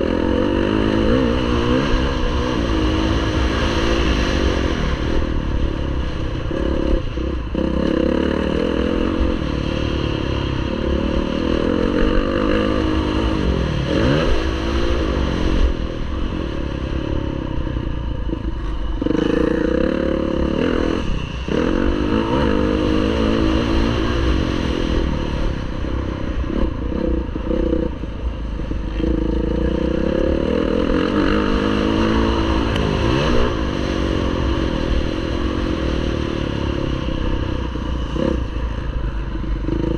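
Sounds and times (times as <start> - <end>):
constant low rumble: 0.0 - 39.9
motocross bike engine revving: 0.0 - 39.9.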